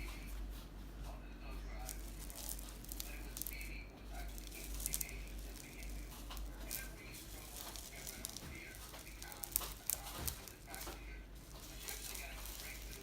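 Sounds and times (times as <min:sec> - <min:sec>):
faint low hum: 0:00.0 - 0:13.0
packaging rustling and crinkling: 0:01.8 - 0:13.0.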